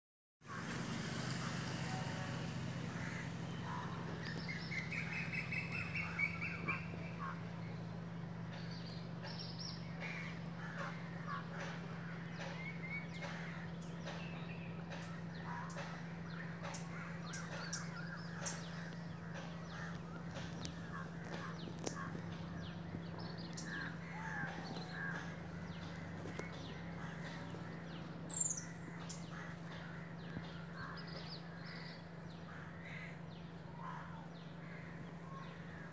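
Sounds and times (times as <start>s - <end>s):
birds calling and chirping: 0.4s - 35.9s
steady low hum: 0.5s - 35.9s.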